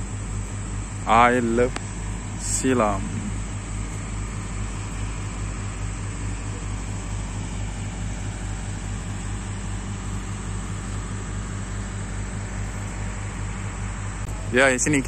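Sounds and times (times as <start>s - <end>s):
motor humming with throb: 0.0s - 15.0s.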